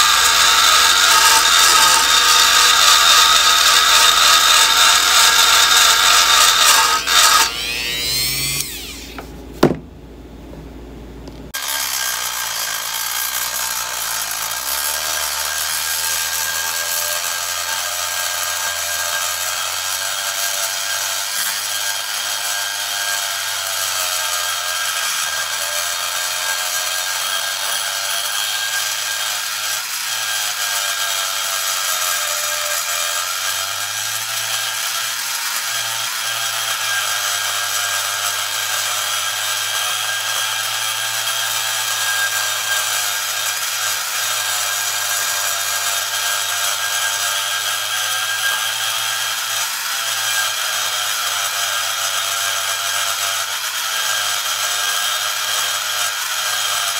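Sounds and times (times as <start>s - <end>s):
rotary grinder cutting metal: 0.0s - 9.3s, 11.6s - 56.9s.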